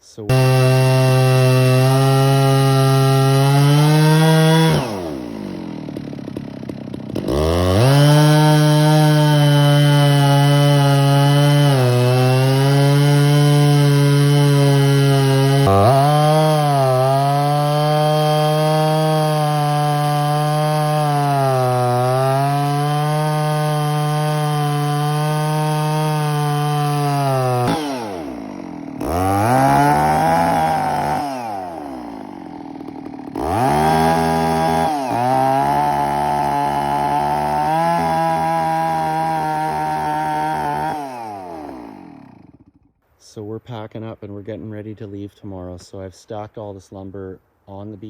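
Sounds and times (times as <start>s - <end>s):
chainsaw cutting at high revs: 0.0s - 42.9s.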